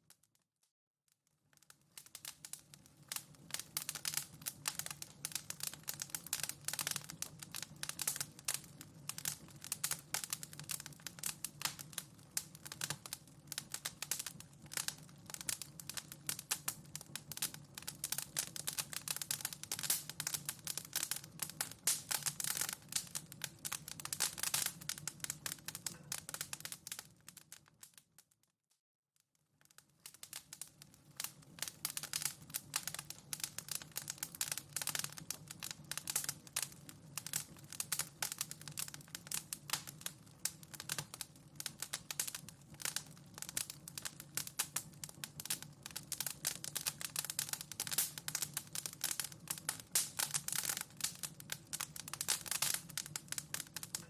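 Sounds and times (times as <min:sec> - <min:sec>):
fireplace fire crackling: 0:01.4 - 0:28.3, 0:29.5 - 0:54.0.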